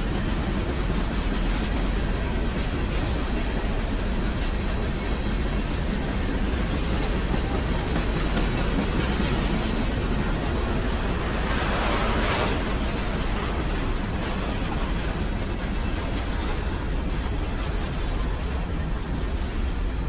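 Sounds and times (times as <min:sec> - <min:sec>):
freight train rumbling by: 0:00.0 - 0:20.0.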